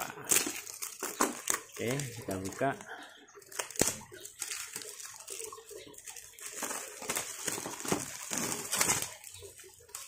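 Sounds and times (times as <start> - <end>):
plastic film crinkling: 0.0 - 10.0.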